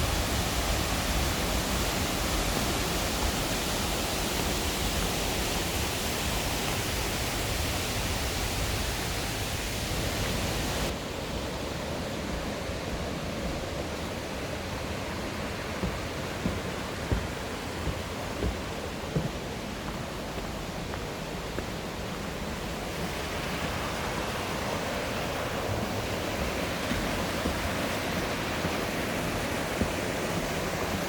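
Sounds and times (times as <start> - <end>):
stream rapids rushing: 0.0 - 31.0.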